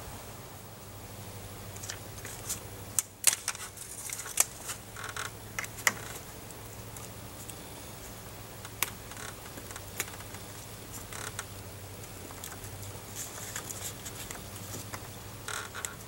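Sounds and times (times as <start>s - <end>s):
steady low hum: 0.0s - 16.0s
clicks taps and rustles: 1.7s - 7.6s, 8.6s - 16.0s.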